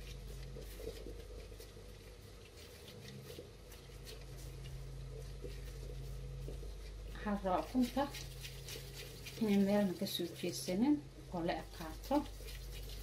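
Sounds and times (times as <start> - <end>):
low steady hum: 0.0 - 13.0
mashed potato squelching: 0.0 - 13.0.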